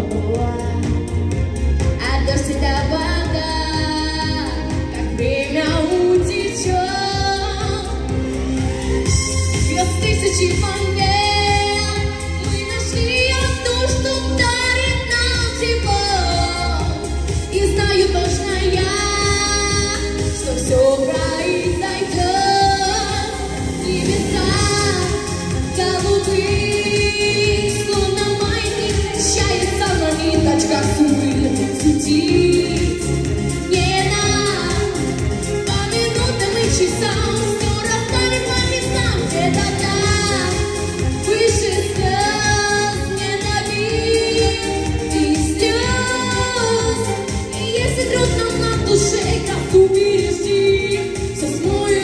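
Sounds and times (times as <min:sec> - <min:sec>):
backing track with beat and bass: 0:00.0 - 0:52.0
girl singing pop ballad: 0:00.0 - 0:52.0.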